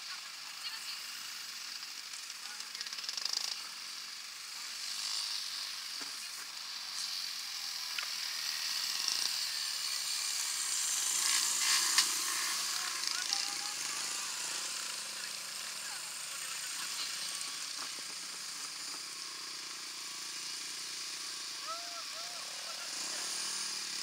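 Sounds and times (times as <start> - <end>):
dirt bike engines: 0.0 - 24.0.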